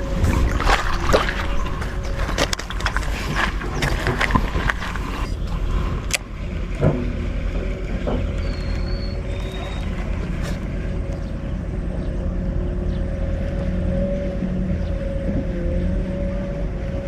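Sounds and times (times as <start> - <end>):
motor rumbling: 0.0 - 17.0.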